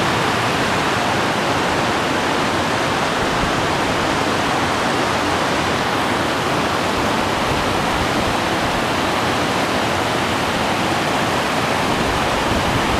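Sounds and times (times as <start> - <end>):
river rushing over rocks: 0.0 - 12.9.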